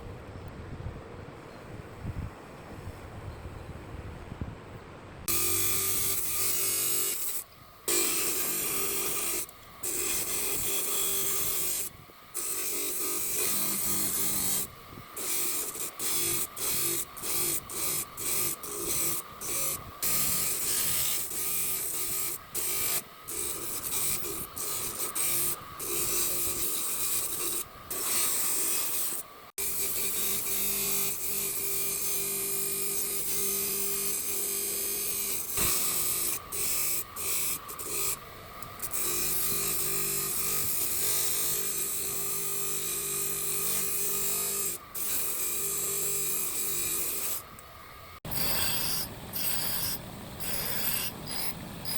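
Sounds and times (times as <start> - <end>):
scraping on a steel file: 5.3 - 47.5, 48.3 - 51.9.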